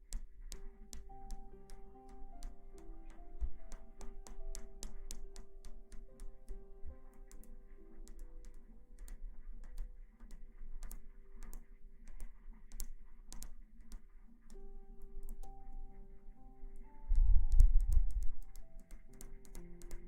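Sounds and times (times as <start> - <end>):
sharp clicks and taps: 0.0 - 16.1, 16.8 - 20.0
soft music with held notes: 0.0 - 20.0.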